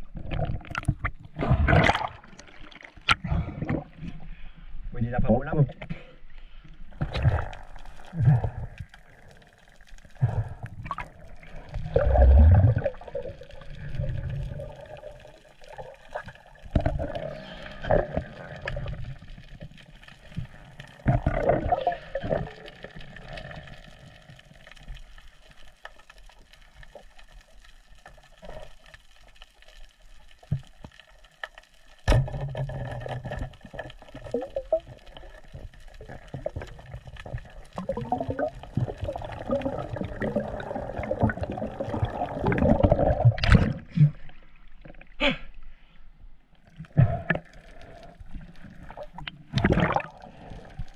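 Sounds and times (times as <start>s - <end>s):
underwater splashing and gurgling: 0.0s - 45.4s, 46.4s - 50.9s
underwater commotion: 0.0s - 45.8s, 46.6s - 50.9s.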